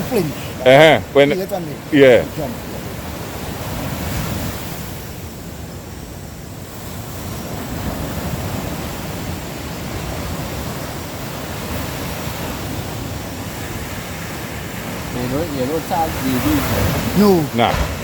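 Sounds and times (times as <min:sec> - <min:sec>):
sea surf washing on beach: 0:00.0 - 0:18.0.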